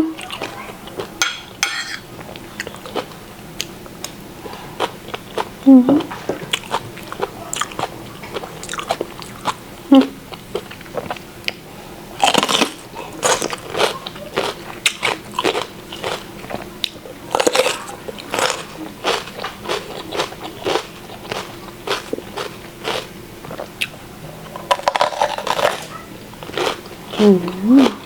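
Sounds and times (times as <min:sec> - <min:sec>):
person chewing food: 0:00.2 - 0:28.0.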